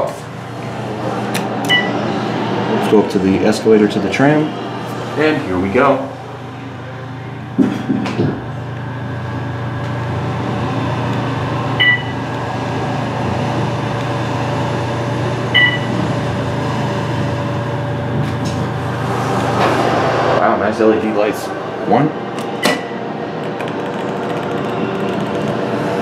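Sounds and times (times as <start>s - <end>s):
elevator car hum and rush: 0.0s - 26.0s.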